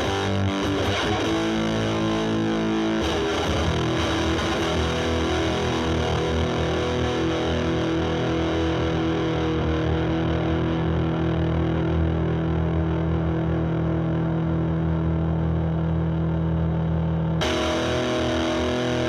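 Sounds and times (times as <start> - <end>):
distorted electric guitar chord: 0.0 - 19.0.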